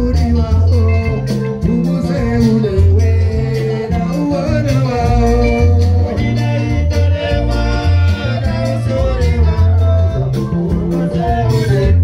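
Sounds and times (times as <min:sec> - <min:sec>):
heavy bass line: 0:00.0 - 0:12.0
person singing: 0:00.0 - 0:12.0
steady drum beat: 0:00.0 - 0:12.0.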